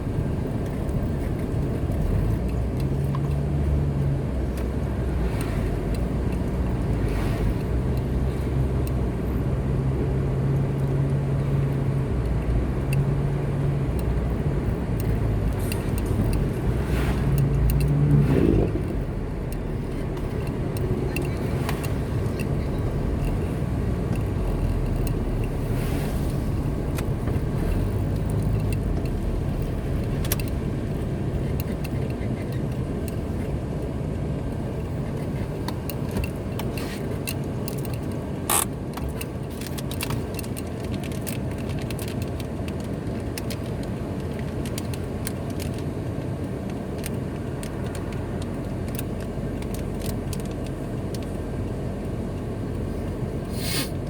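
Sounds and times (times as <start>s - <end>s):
car engine drone: 0.0s - 54.0s.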